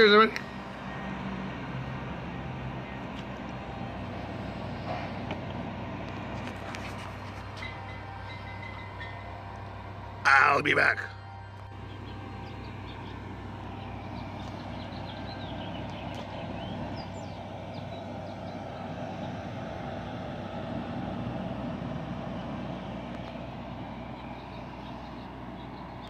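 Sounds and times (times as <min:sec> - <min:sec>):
dehydrator fan humming: 0:00.0 - 0:26.0.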